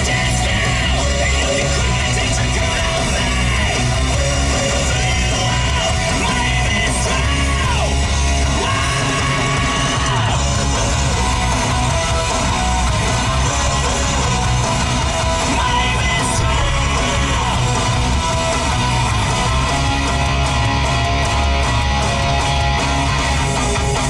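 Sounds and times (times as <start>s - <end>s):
shouted vocals: 0.0s - 20.8s
loud rock music: 0.0s - 24.0s.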